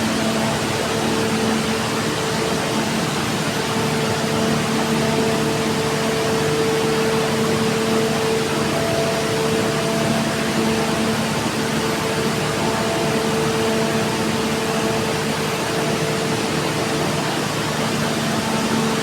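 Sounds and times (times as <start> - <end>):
machine running with loud hiss: 0.0 - 19.0.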